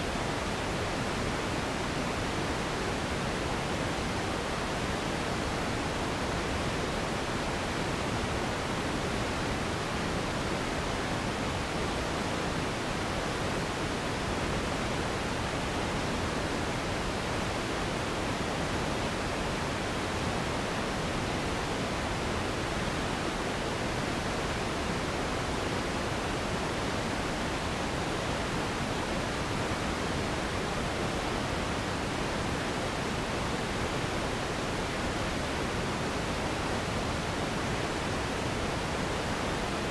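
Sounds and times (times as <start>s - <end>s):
steady hiss noise: 0.0s - 39.9s.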